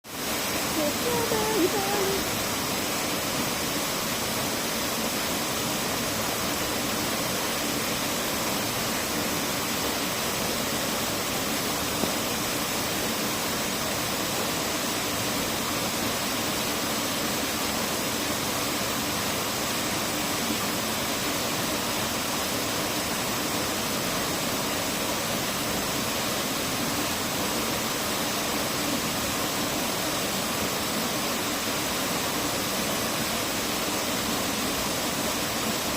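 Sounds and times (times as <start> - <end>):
rushing water: 0.0 - 35.9.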